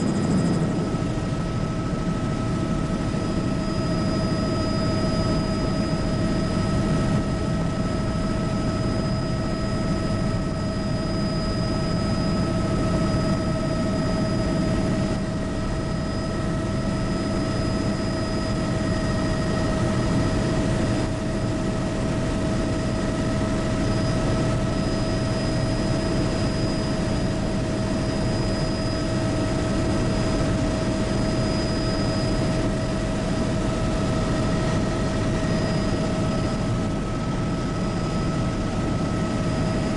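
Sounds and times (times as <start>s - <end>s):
helicopter rotor and engine drone: 0.0s - 39.9s
high turbine whine: 0.0s - 39.9s.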